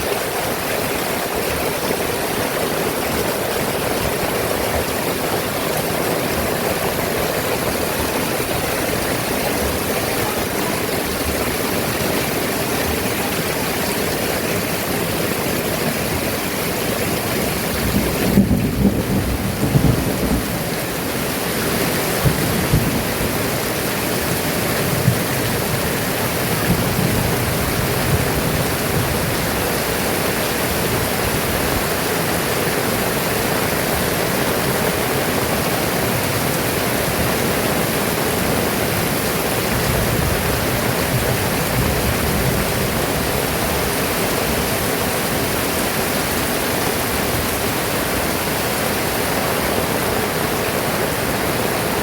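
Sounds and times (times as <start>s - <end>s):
louder rain taps: 0.0s - 47.9s
heavy rain pouring: 0.0s - 52.0s.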